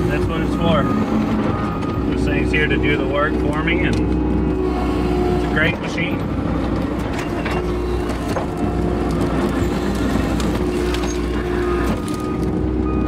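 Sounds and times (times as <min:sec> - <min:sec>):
diesel and hydraulic drone: 0:00.0 - 0:13.0.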